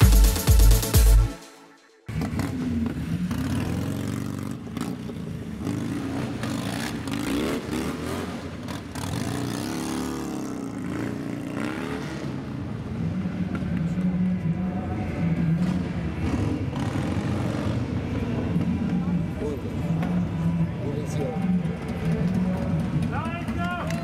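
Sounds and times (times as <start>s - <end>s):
motorcycle engine revving: 2.0s - 24.0s.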